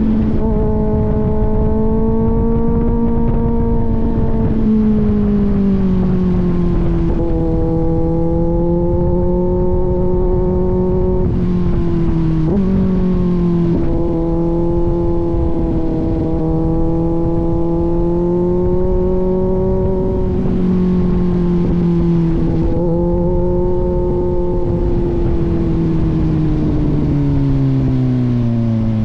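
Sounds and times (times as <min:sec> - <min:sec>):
motorcycle engine cruising: 0:00.0 - 0:29.0.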